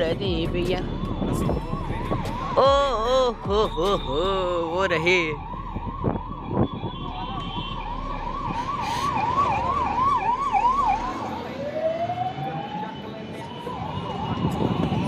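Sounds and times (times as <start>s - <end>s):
ambulance siren yelping: 1.0s - 15.0s.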